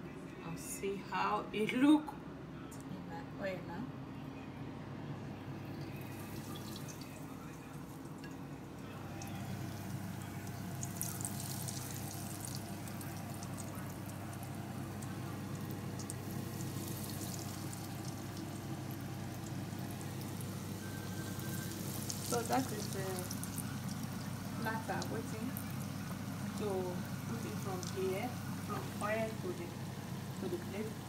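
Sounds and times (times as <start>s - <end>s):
food deep-frying in oil: 5.6s - 31.0s.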